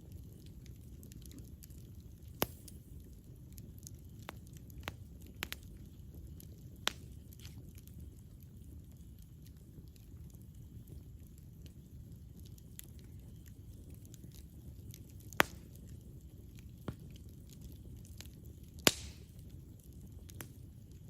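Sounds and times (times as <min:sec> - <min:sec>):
campfire flame rumble: 0:00.0 - 0:21.0
small crackles of fire: 0:00.0 - 0:21.0
burning wood popping: 0:00.1 - 0:21.0.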